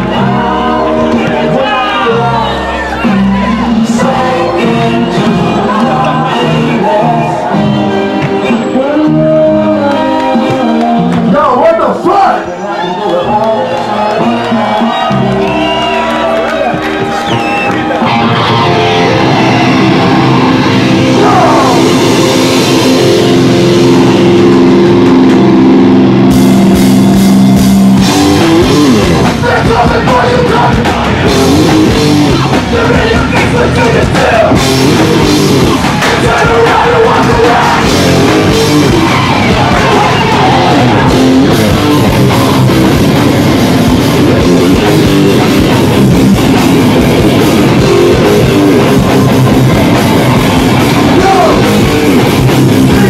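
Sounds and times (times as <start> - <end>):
punk band playing live: 0.0 - 12.2, 12.8 - 53.0.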